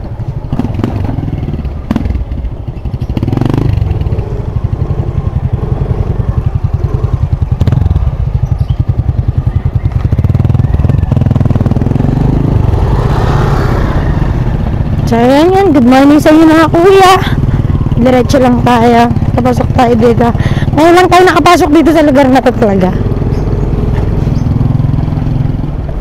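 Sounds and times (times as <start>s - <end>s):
small motorcycle engine running: 0.0s - 26.0s.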